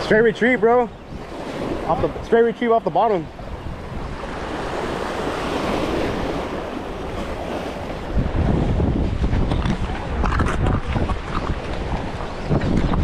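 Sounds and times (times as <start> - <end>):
waves washing: 0.0 - 13.0
wind buffeting microphone: 0.0 - 13.0.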